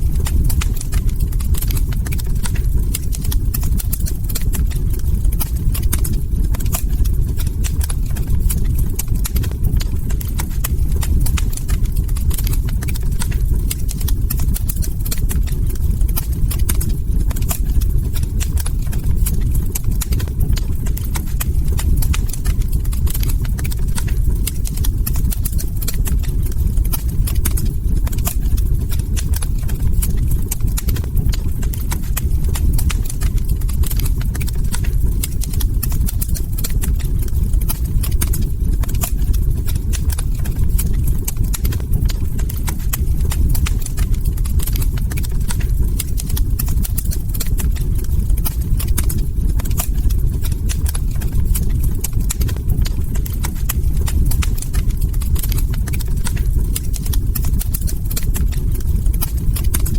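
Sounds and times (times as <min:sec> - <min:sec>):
log fire crackling: 0:00.0 - 0:59.9
low rumble: 0:00.0 - 0:59.9.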